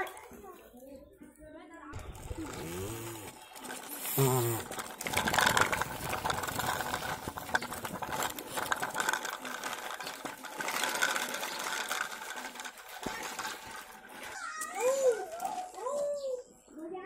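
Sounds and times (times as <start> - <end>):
plastic toy tractor rattling on dirt: 0.0 - 16.9.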